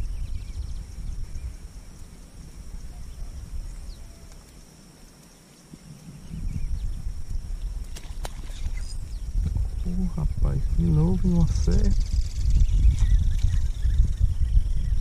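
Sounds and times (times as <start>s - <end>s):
wind buffeting microphone: 0.0s - 4.8s, 5.6s - 15.0s.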